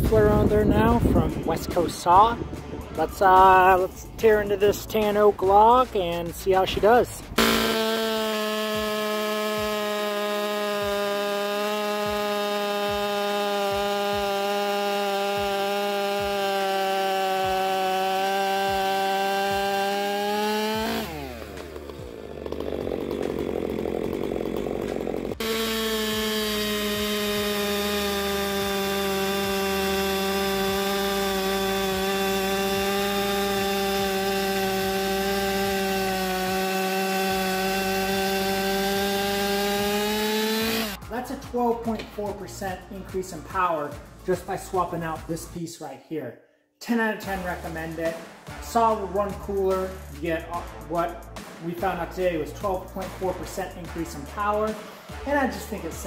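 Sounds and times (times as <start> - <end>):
chainsaw cutting log: 1.4 - 42.6, 47.3 - 56.0.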